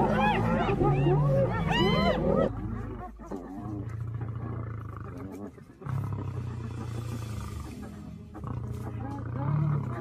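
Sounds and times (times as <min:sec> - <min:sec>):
hyenas growling: 0:00.0 - 0:10.0.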